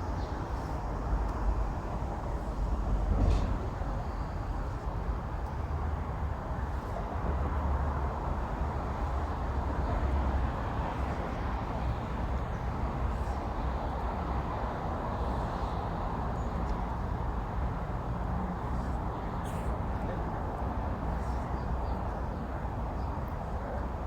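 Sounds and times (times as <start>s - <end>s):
outdoor rumble and hiss: 0.0s - 24.0s.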